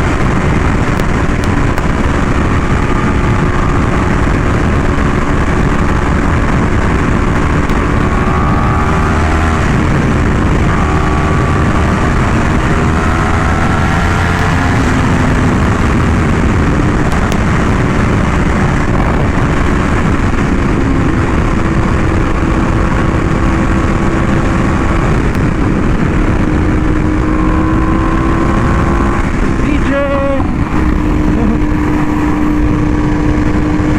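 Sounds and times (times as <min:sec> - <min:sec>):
motorcycle engine revving: 0:00.0 - 0:33.9
wind rush: 0:00.0 - 0:33.9.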